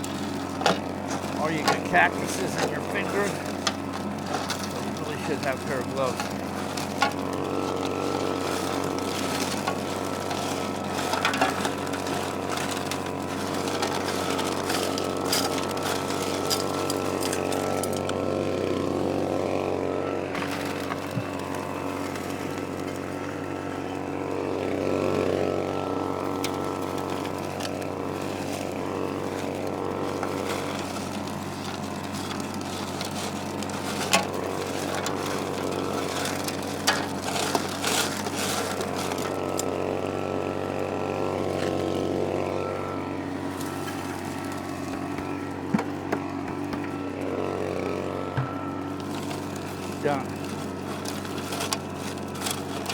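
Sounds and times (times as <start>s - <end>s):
gravel clicking in hose: 0.0s - 19.7s, 20.3s - 52.9s
small gasoline engine running: 0.0s - 52.9s.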